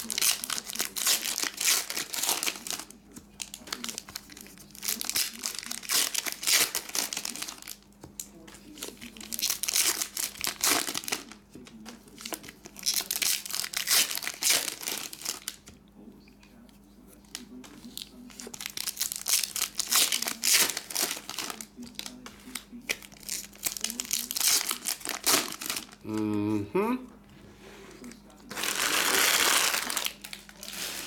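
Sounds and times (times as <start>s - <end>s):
foil wrappers crinkling and tearing: 0.0s - 15.7s, 17.2s - 26.0s, 28.0s - 31.0s.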